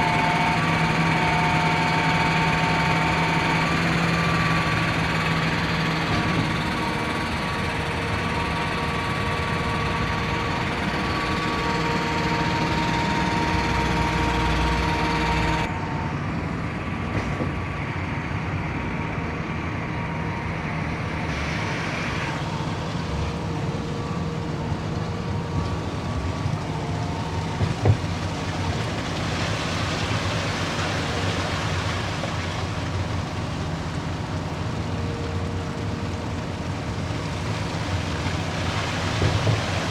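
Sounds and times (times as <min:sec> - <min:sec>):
diesel engine hum: 0:00.0 - 0:39.9.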